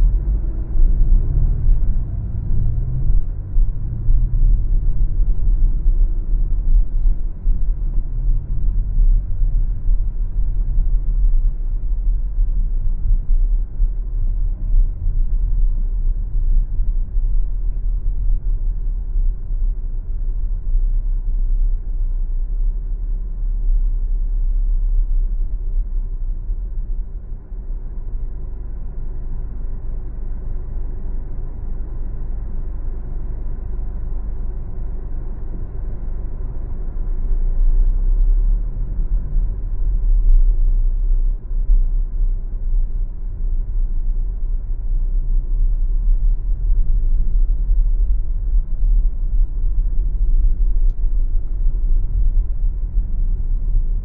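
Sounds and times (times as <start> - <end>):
car road and tyre rumble: 0.0 - 54.0.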